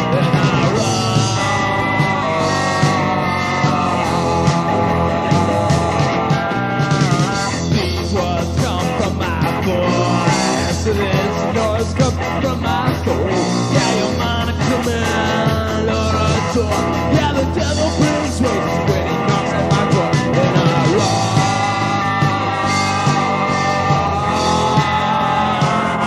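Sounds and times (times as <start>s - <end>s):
drum kit: 0.0s - 26.0s
electric guitar: 0.0s - 26.0s.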